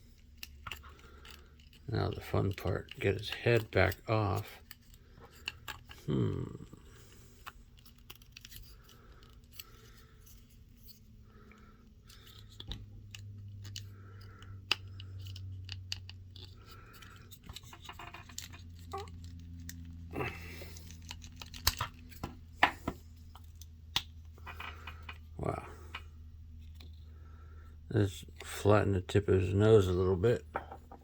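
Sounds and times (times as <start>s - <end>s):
plastic parts clicking and creaking: 0.0s - 28.8s.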